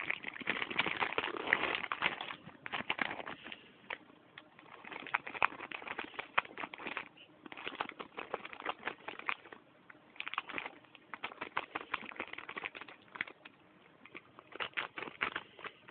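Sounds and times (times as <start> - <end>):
plastic snack bag crinkling: 0.0 - 15.9.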